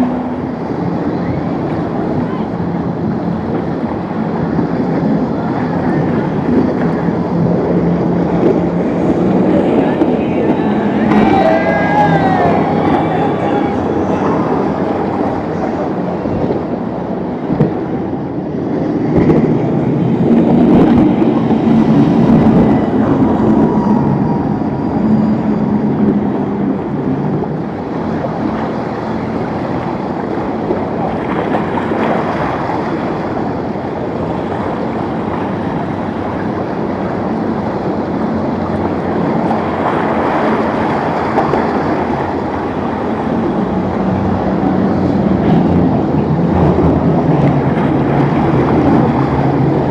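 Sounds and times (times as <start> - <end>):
motorboat engines running: 0.0 - 49.9
waves: 0.0 - 49.9
wind noise on microphone: 0.0 - 49.9.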